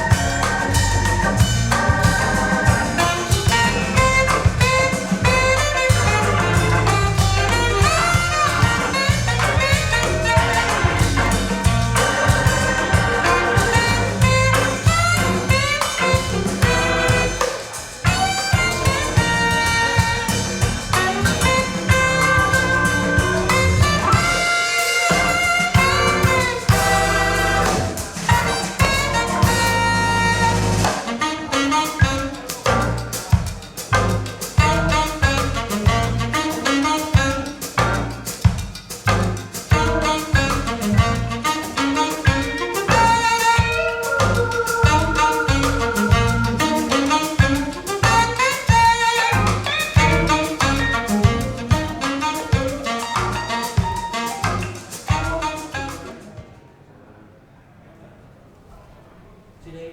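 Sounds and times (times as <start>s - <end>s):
jazz over loudspeakers: 0.0s - 57.4s.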